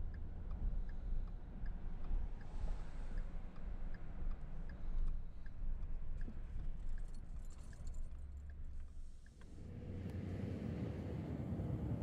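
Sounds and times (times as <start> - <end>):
turn signal ticking: 0.0 - 10.2
engine and road rumble: 0.0 - 12.0.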